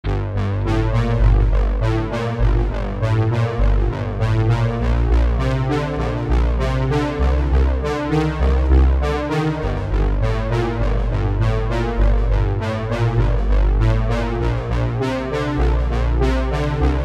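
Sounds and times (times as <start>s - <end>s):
synthesizer tune with bass and beat: 0.0s - 17.0s.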